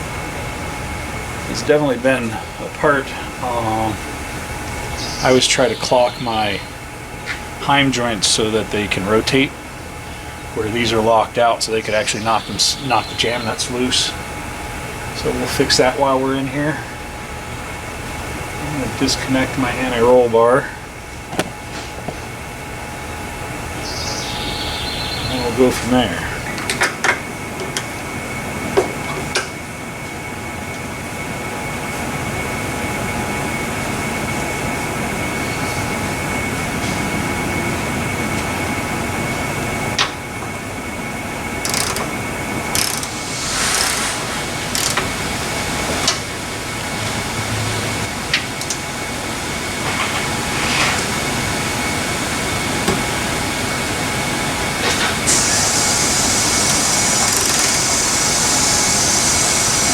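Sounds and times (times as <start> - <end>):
workshop hum: 0.0 - 59.9.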